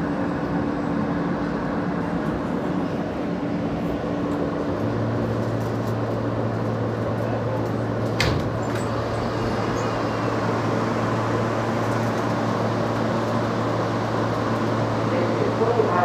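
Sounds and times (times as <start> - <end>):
subway car mechanical hum: 0.0 - 16.0.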